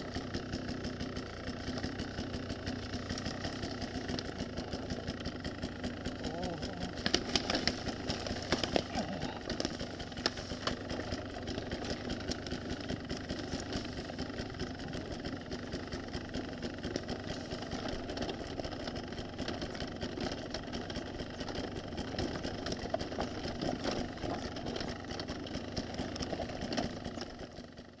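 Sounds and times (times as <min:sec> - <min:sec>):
bike rattles and knocks: 0:00.0 - 0:27.9
motorcycle engine at low throttle: 0:00.0 - 0:28.0.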